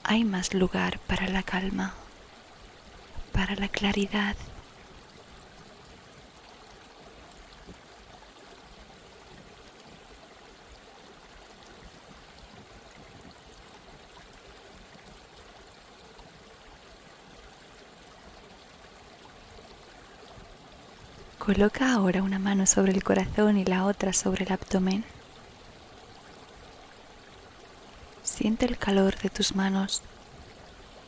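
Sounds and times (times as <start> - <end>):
soft flowing water: 0.0 - 31.0.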